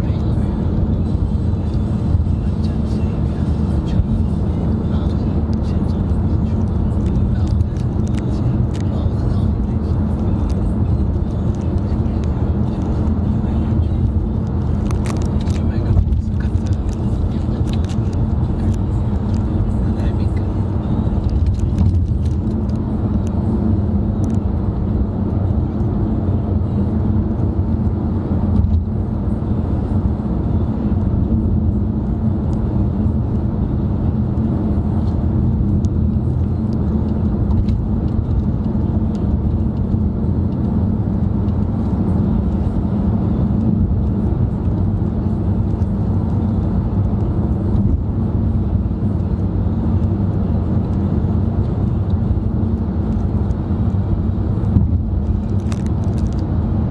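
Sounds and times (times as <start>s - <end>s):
road and engine noise in car: 0.0s - 56.9s.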